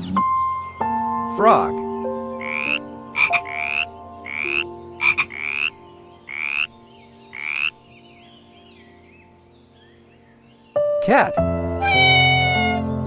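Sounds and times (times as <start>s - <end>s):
tree frog calling: 0.0s - 10.6s, 11.8s - 13.0s.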